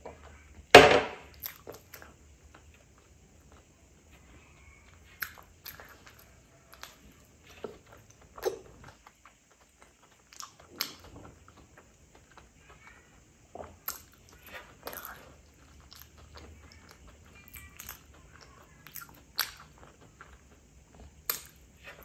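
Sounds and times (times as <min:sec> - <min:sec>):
person chewing: 0:01.3 - 0:22.0.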